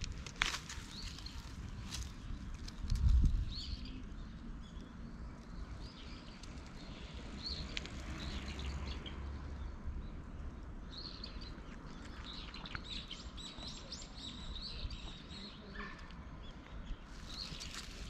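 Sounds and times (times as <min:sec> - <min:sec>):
small birds chirping: 0:00.5 - 0:18.0.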